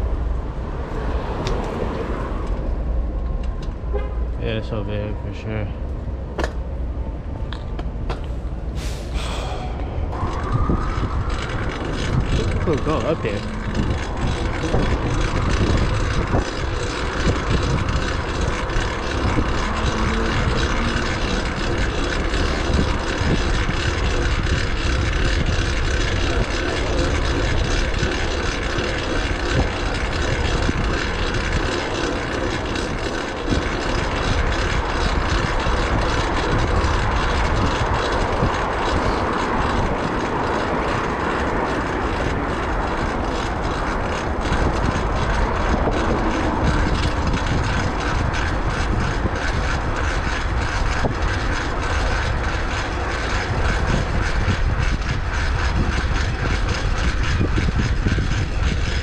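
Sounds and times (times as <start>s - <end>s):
bicycle tyre and road noise: 0.0s - 59.0s
wind over microphone: 0.0s - 59.0s.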